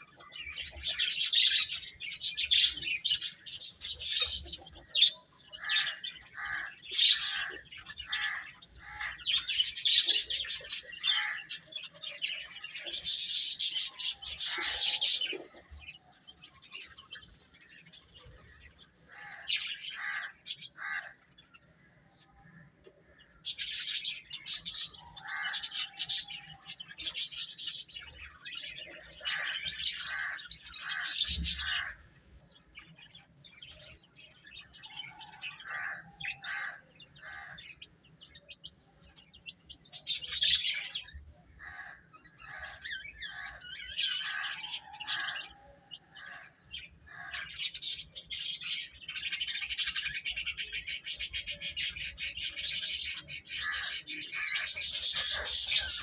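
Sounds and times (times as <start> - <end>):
baby chicks cheeping: 0.0 - 22.0, 22.6 - 56.0.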